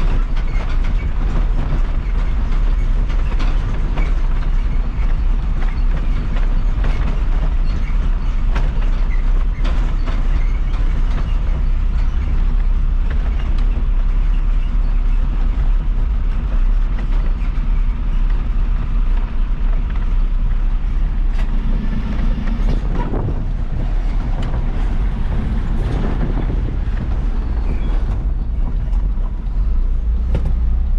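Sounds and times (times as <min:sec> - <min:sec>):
cab clicks and rattles: 0:00.0 - 0:30.9
diesel truck engine rumble: 0:00.0 - 0:30.9
road noise: 0:00.0 - 0:30.9.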